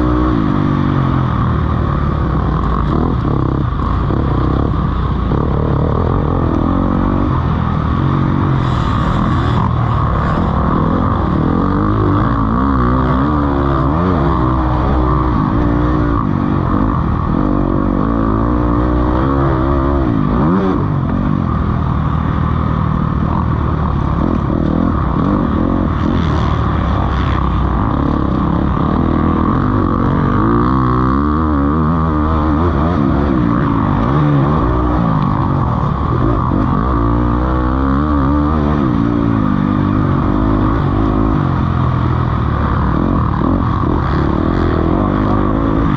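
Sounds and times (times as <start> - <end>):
motocross bikes racing: 0.0 - 45.9.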